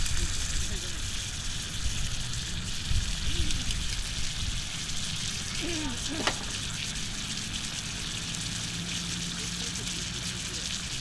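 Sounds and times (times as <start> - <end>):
meat sizzling on griddle: 0.0 - 11.0.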